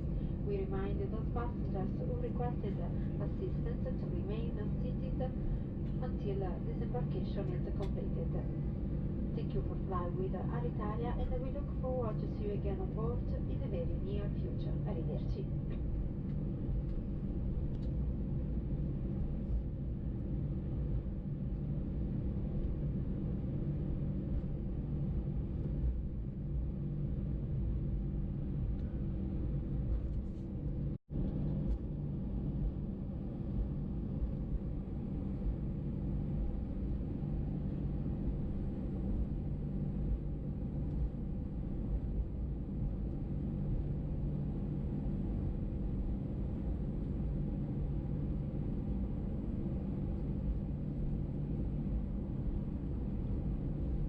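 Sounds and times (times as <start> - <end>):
aircraft cabin rumble and hum: 0.0 - 54.0.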